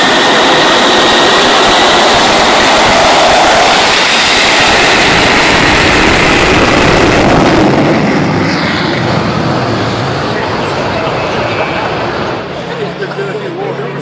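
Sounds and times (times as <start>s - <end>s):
engine whine: 0.0s - 14.0s
jet engines running loud: 0.0s - 14.0s.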